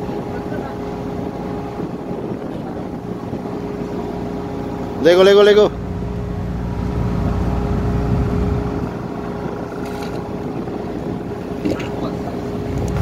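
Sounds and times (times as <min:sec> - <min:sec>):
ship engine machinery rumbling: 0:00.0 - 0:13.0.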